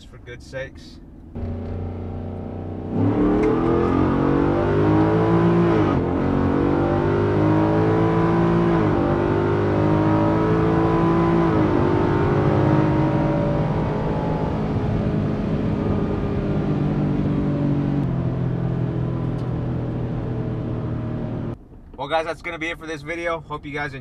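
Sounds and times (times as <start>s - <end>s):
engine revving through upshifts: 1.3s - 21.6s.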